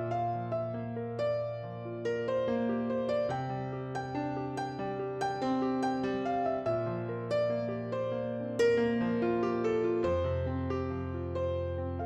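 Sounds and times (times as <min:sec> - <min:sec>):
soft piano-like keyboard: 0:00.0 - 0:12.0.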